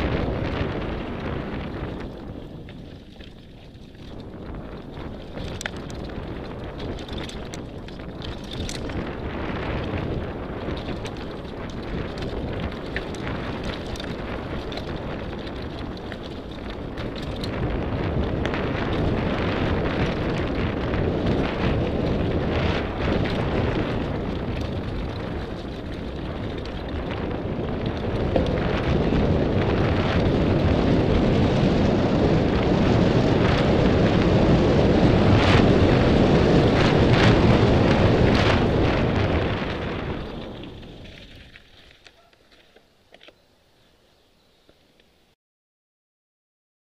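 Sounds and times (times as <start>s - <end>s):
wind buffeting microphone: 0.0s - 42.3s
bike clicks and rattles: 0.0s - 43.5s
bike tyres on gravel: 0.0s - 45.3s.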